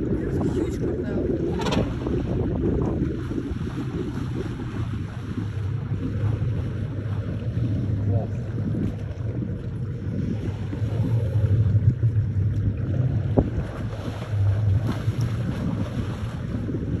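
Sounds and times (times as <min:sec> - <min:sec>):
steady low rumble: 0:00.0 - 0:17.0
water splashing: 0:00.0 - 0:17.0
wind buffeting microphone: 0:00.0 - 0:17.0.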